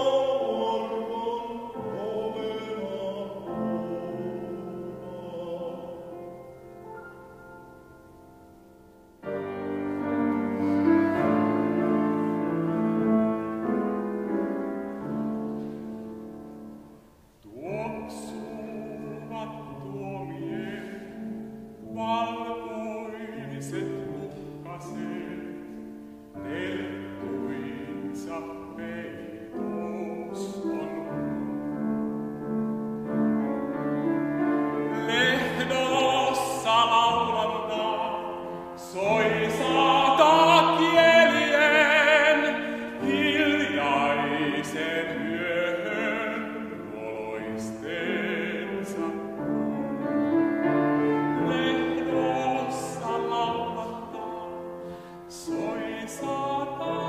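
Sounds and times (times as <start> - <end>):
baritone singing classical song: 0.0 - 57.0
piano accompaniment: 0.0 - 57.0.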